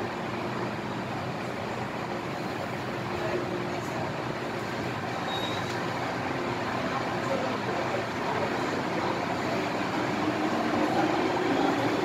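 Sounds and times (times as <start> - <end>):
train car hum and air noise: 0.0 - 12.0.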